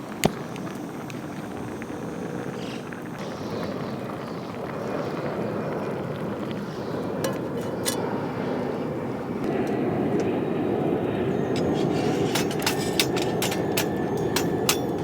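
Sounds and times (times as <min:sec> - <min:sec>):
burning wood crackling: 0:00.0 - 0:15.0.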